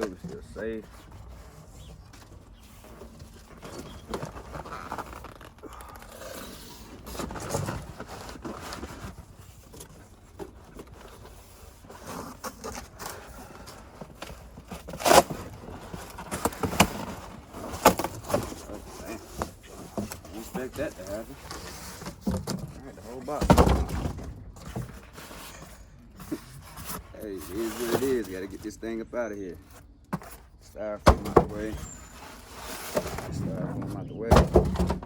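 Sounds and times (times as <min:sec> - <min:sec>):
cardboard and styrofoam scraping: 0:00.0 - 0:28.8, 0:31.2 - 0:35.0.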